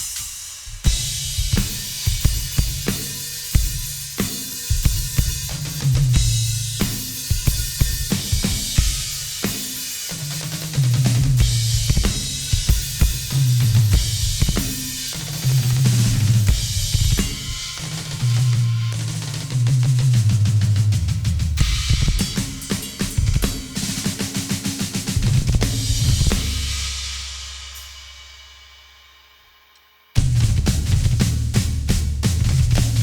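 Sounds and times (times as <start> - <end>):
drum kit playing a beat: 0.0 - 29.2, 30.2 - 33.0.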